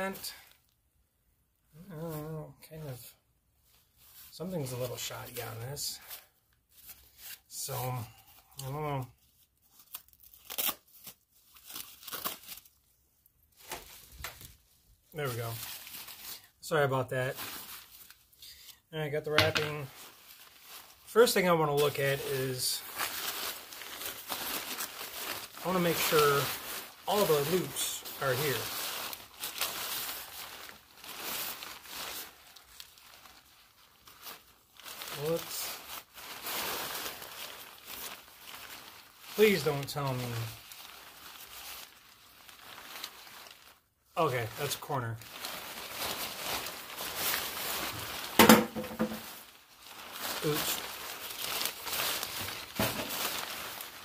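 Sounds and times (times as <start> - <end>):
packaging wrapper ripping and rustling: 4.0 - 16.6, 17.3 - 54.0.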